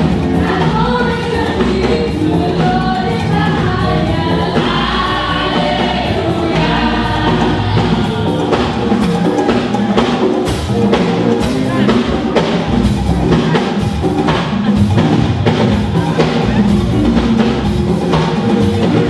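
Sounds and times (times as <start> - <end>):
choir singing gospel: 0.0 - 19.0
sharp drum beats: 0.0 - 19.0.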